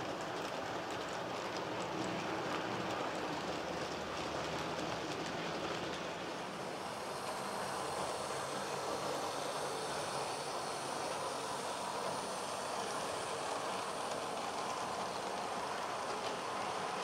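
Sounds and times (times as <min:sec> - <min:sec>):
model train rolling on track: 0:00.0 - 0:17.0.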